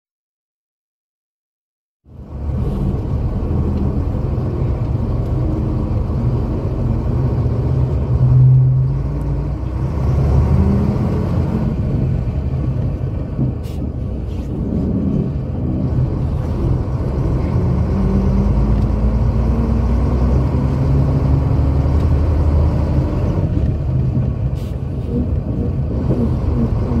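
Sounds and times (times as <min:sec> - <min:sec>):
diesel engine drone: 0:02.1 - 0:27.0.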